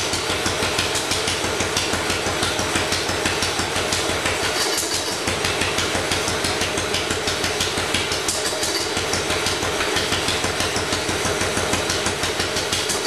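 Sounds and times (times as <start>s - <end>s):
single-cylinder engine running: 0.0s - 13.0s.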